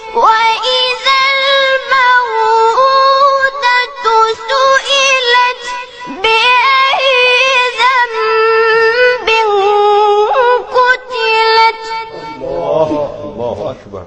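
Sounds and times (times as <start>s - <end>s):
child chanting recitation: 0.0s - 13.6s.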